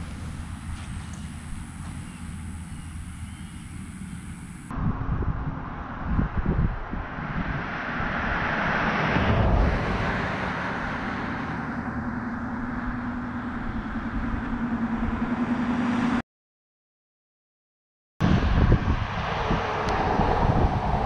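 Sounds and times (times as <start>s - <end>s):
road traffic passing: 0.0s - 16.2s, 18.2s - 21.0s
vehicle humming low: 0.0s - 16.2s, 18.2s - 21.0s.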